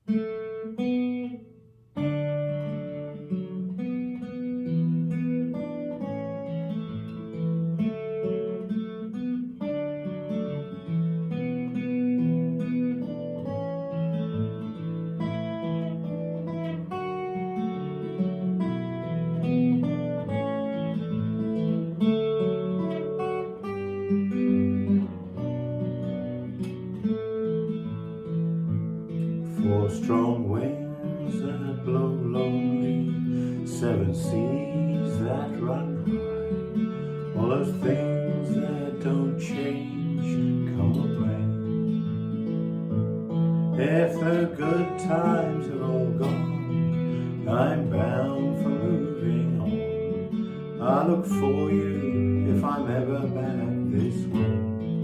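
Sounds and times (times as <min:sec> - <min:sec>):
acoustic guitar chords: 0:00.0 - 0:55.0.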